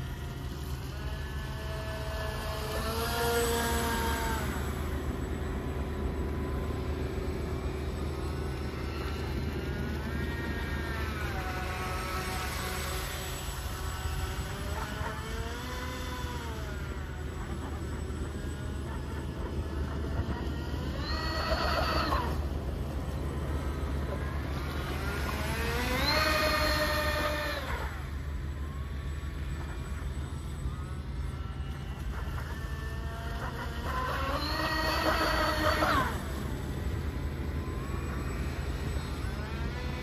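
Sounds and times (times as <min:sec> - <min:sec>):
electric boat motors whining: 0:00.0 - 0:40.0.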